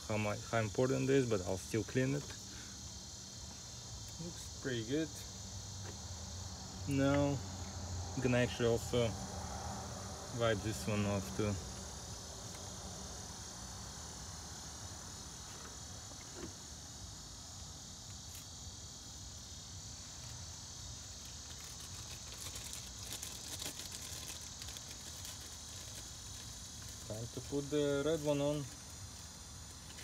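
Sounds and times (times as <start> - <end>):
high-pitched insect trilling: 0.0 - 30.0.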